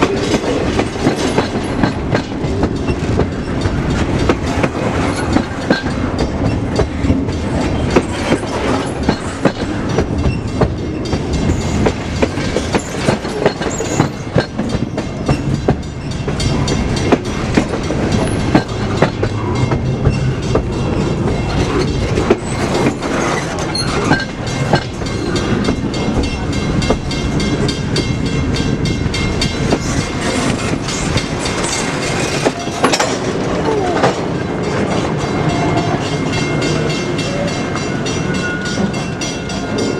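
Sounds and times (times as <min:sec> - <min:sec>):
steady train rumble: 0:00.0 - 0:39.9
train wheels clacking over rail joints: 0:00.0 - 0:39.9.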